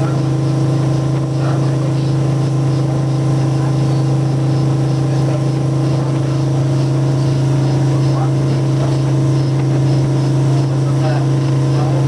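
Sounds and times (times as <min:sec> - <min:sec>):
ship engine droning: 0:00.0 - 0:12.0.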